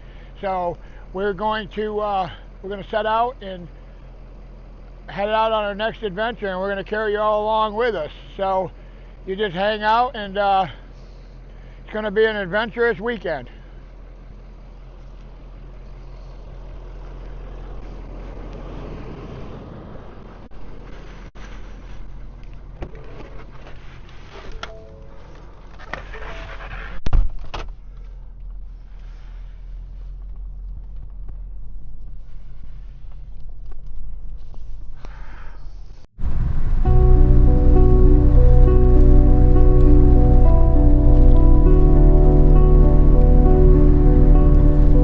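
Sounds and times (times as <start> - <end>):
road noise: 0.0 - 24.4, 27.8 - 45.0
vehicle engine hum: 0.0 - 45.0.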